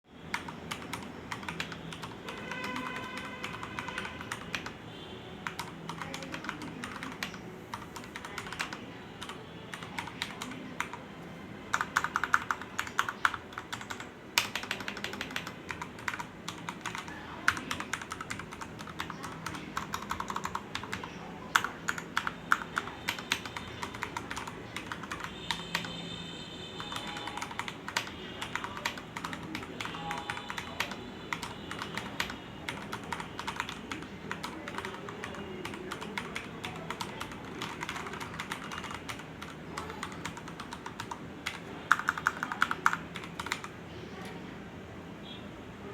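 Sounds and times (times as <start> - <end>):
mechanical keyboard typing: 0.2 - 4.8, 5.4 - 11.0, 11.7 - 26.0, 26.8 - 43.8.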